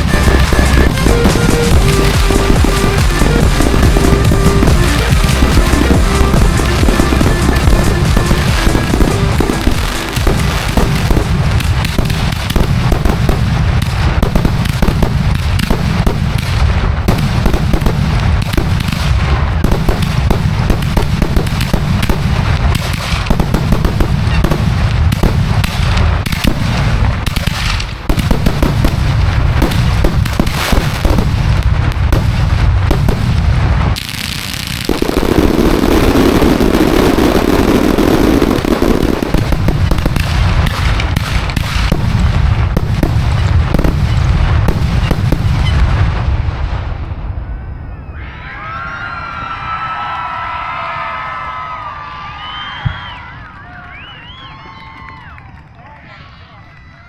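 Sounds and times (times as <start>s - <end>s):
fireworks booms and cracks: 0.0s - 48.0s.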